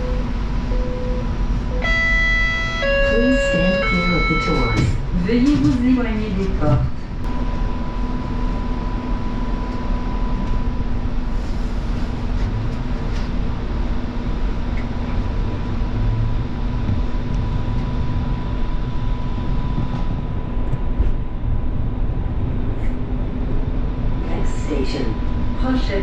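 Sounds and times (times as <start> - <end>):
constant high hum: 0.0 - 26.0
tram low rumble: 0.0 - 26.0.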